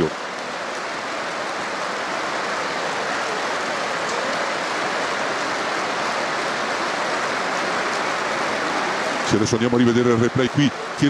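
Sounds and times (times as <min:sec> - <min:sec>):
stadium crowd applauding: 0:00.0 - 0:11.0.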